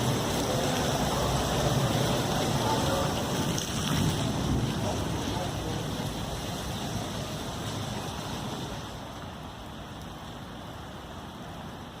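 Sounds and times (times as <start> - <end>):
rain and wind rushing: 0.0 - 12.0.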